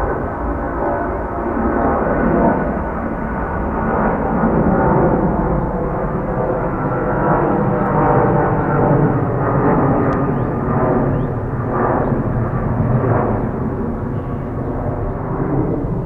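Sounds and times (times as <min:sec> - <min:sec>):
jet engines running loud: 0:00.0 - 0:16.0.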